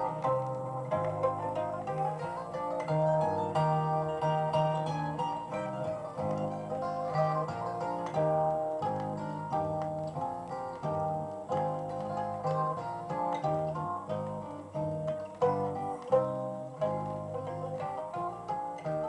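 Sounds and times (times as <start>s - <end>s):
plucked-string music: 0.0s - 19.0s
record crackle: 0.0s - 19.0s.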